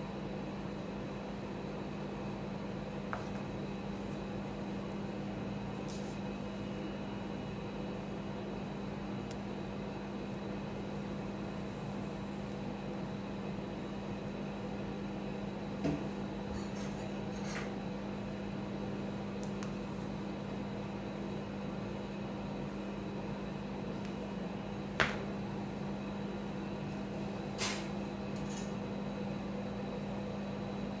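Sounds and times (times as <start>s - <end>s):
refrigeration unit humming: 0.0s - 31.0s.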